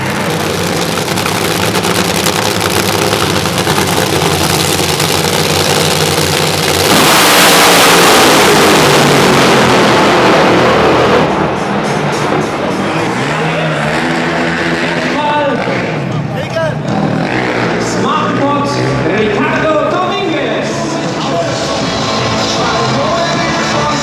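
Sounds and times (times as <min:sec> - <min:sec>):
drag racing car engines: 0:00.0 - 0:24.0.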